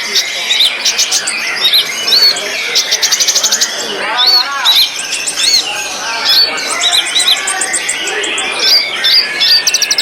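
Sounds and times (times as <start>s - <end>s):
bird singing whistles and warbles: 0.0s - 10.0s.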